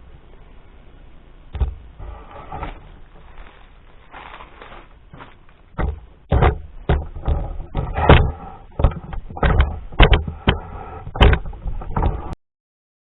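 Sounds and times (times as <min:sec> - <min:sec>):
knocks and clunks of handling: 0:01.6 - 0:12.4.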